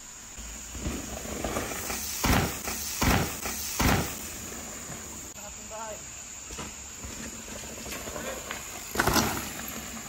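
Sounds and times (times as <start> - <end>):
bike wheels thudding on rocks: 0.6 - 5.2, 6.5 - 10.0.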